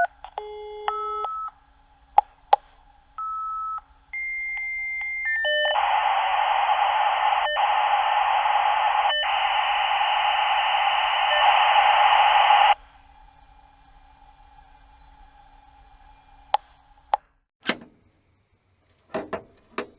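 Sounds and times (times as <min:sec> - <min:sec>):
dial-up modem handshake: 0:00.0 - 0:17.2.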